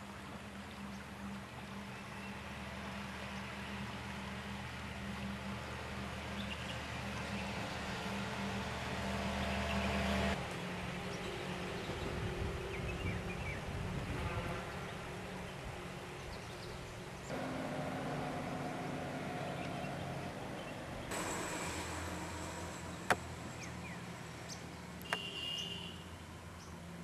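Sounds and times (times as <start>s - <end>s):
engine hum: 0.0s - 14.3s, 15.0s - 27.0s.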